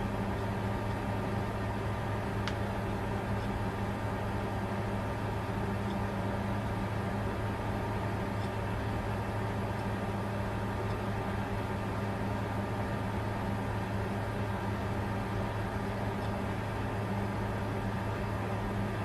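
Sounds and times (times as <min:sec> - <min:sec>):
computer cooling fans whirring: 0:00.0 - 0:19.0.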